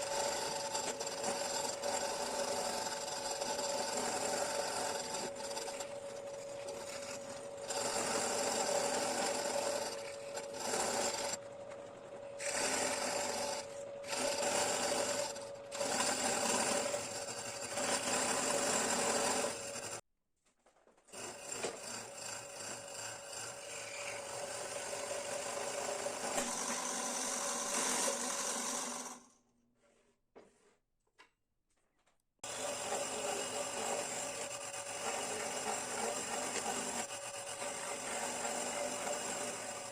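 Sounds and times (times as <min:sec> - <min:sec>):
power tool grinding wood: 0:00.0 - 0:20.0, 0:21.1 - 0:29.2, 0:32.4 - 0:39.9.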